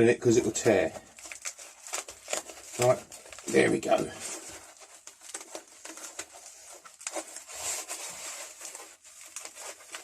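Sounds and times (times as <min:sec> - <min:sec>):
foam rustling and clicking: 0:00.2 - 0:10.0.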